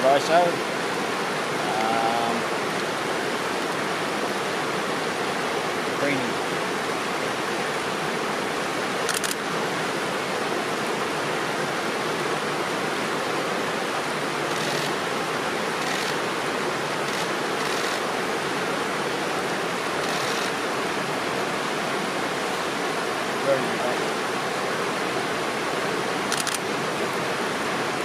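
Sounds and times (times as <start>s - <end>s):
fast stream rushing: 0.0s - 28.0s.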